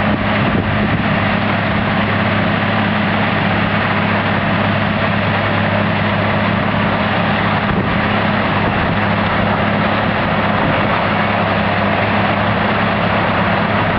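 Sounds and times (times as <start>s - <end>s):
baler machinery din: 0.0s - 13.9s
tractor diesel engine running: 0.0s - 13.9s.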